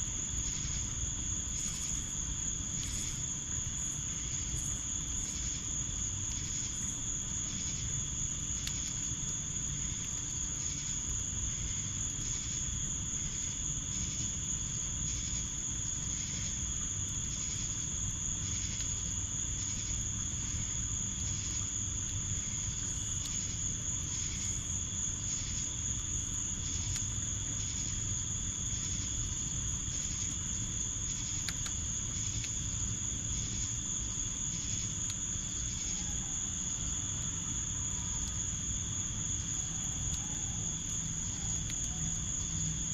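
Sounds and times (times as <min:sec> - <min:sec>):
insects trilling: 0:00.0 - 0:42.9
pulsing insect chirp: 0:00.0 - 0:42.9.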